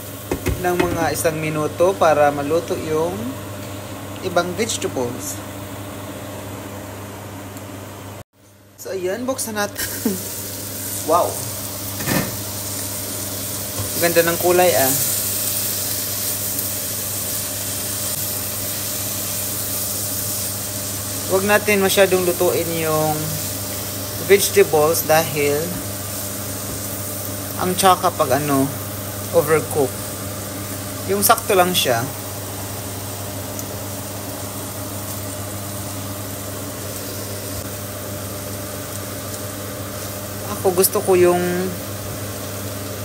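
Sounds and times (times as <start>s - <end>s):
food sizzling in a wok: 0.0s - 4.2s, 9.1s - 43.0s
steady low hum: 0.0s - 43.0s.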